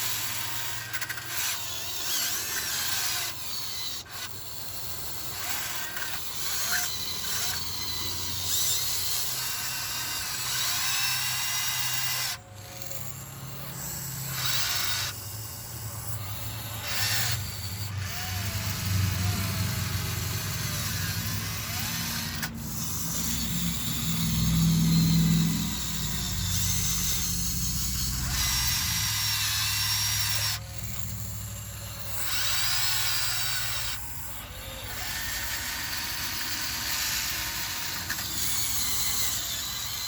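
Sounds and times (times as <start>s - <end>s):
small electric motors whirring: 0.0s - 40.0s.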